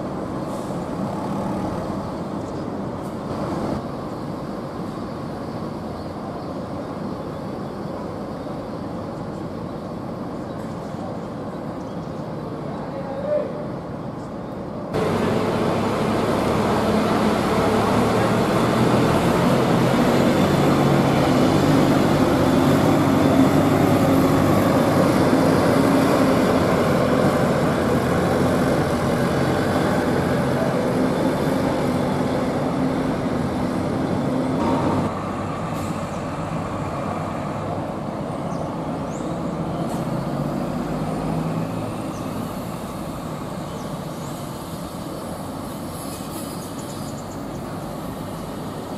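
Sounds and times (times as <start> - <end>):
diesel bus engine droning: 0.0 - 10.4, 14.9 - 48.9
traffic noise: 0.0 - 48.9.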